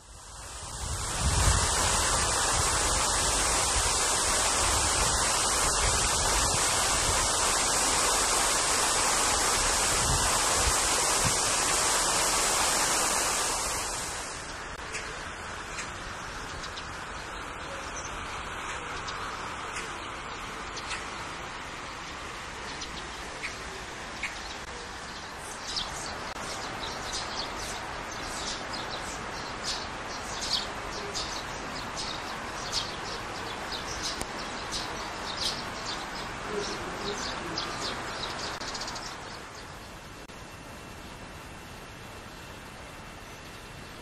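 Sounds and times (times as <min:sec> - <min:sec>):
steady background hiss: 0:00.0 - 0:44.0.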